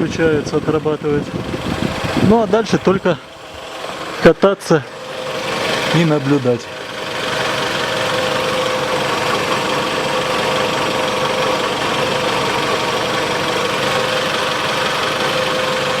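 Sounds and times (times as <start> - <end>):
car engine idling: 0.0 - 16.0
steady whine: 0.3 - 16.0.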